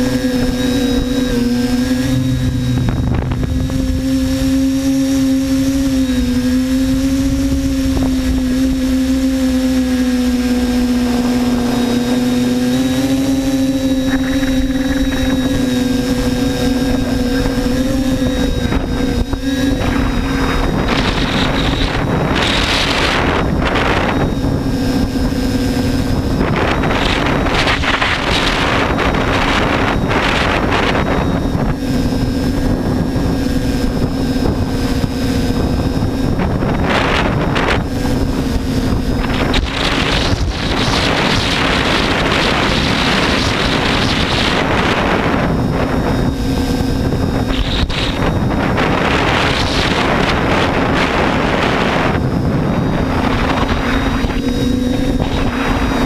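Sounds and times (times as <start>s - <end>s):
drone propellers humming: 0.0s - 56.0s
wind buffeting microphone: 0.0s - 56.0s.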